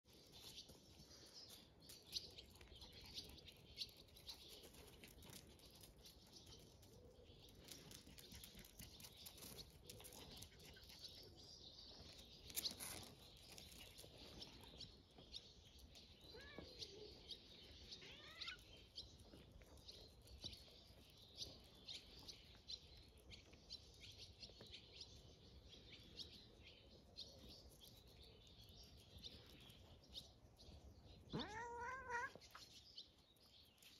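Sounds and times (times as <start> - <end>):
faint bird chirping: 0.1 - 33.9.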